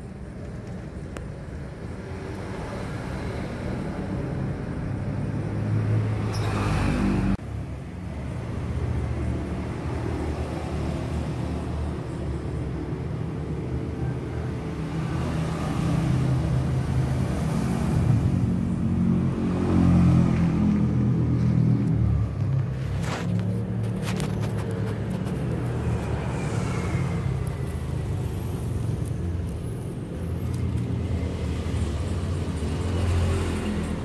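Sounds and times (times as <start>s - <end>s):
traffic engine rumble: 0.0s - 34.0s.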